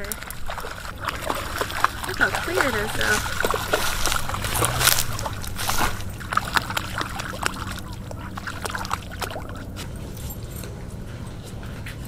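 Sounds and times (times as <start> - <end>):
dogs splashing through water: 0.0 - 11.9
low rumble: 0.0 - 12.0.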